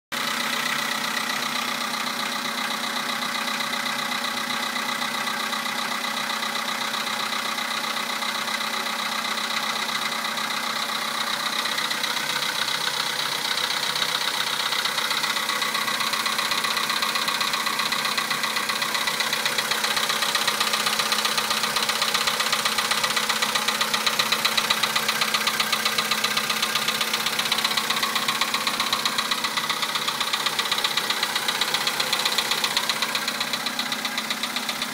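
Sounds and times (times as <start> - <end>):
car engine idling with knock: 0.1 - 34.9.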